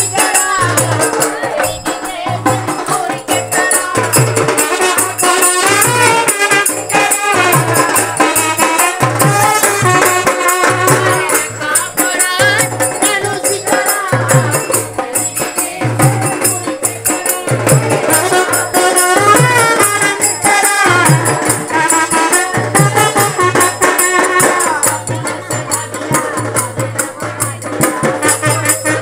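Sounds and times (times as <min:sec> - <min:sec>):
jingling percussion: 0:00.0 - 0:29.0
repeating drum beat: 0:00.0 - 0:29.0.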